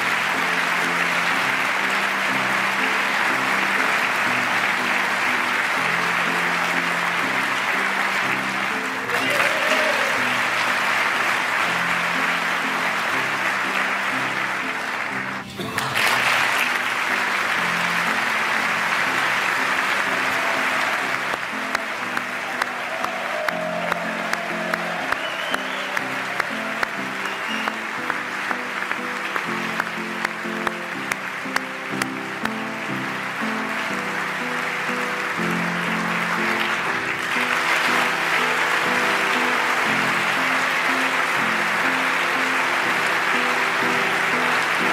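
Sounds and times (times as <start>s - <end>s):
audience clapping: 0.0s - 44.9s
soft instrumental music: 0.0s - 44.9s.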